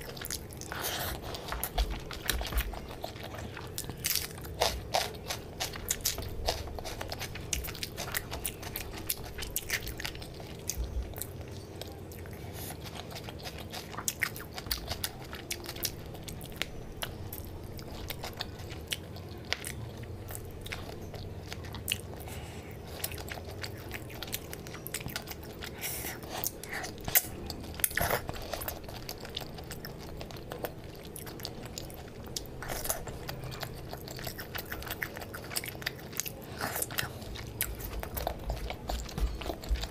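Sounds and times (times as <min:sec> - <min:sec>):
chewing and mouth smacks: 0:00.0 - 0:39.9.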